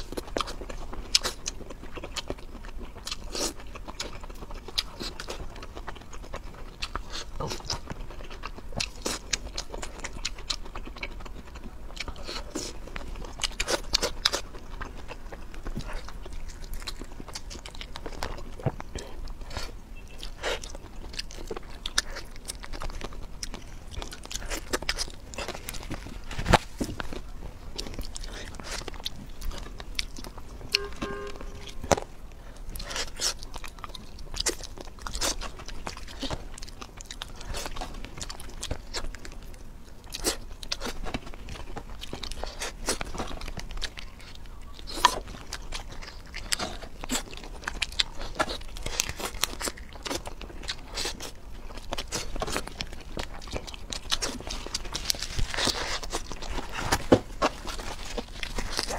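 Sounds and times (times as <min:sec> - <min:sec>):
crunchy bites and chewing: 0:00.0 - 0:58.9.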